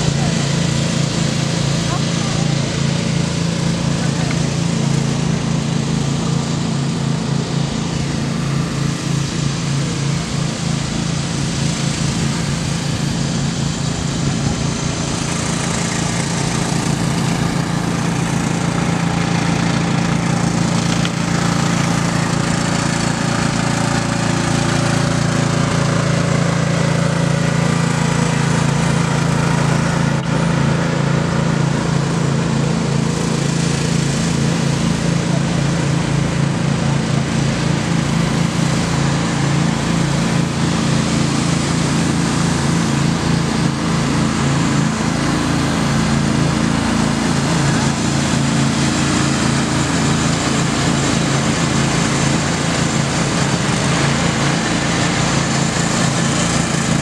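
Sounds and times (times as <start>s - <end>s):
lawn mower engines droning: 0.0s - 57.0s.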